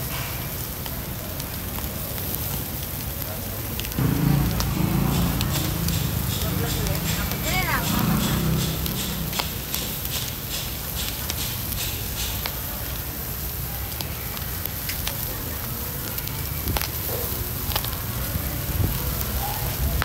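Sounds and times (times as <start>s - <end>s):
meat sizzling over charcoal: 0.0s - 20.0s
sharp pops of grilling: 0.0s - 20.0s.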